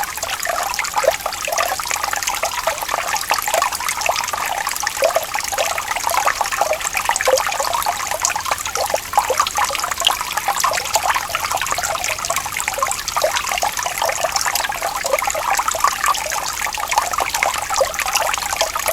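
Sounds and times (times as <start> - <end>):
water trickling and burbling: 0.0 - 18.9.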